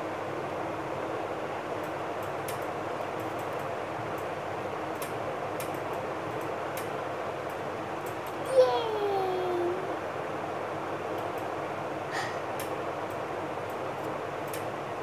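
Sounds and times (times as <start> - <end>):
steady room noise hiss: 0.0 - 15.0.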